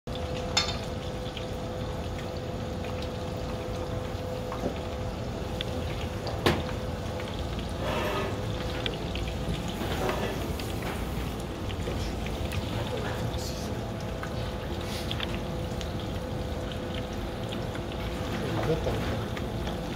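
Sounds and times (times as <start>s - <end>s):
kitchen background hum: 0.1s - 19.9s.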